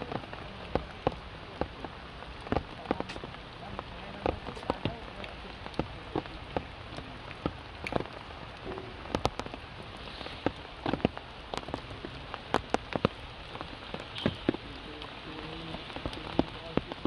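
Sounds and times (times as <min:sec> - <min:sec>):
steady hiss of rain: 0:00.0 - 0:17.0
water drips tapping on stone: 0:00.0 - 0:17.0.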